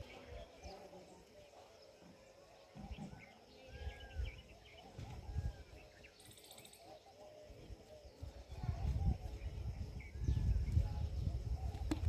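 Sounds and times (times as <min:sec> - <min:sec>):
birds chirping and whistling: 0:01.6 - 0:12.0.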